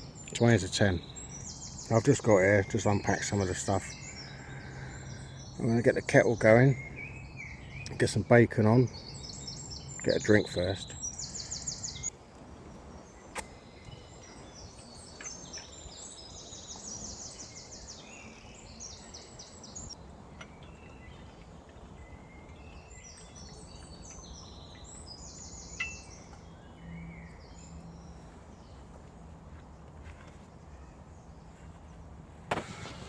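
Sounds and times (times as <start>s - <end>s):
birds trilling: 0.0s - 12.1s, 13.0s - 28.9s.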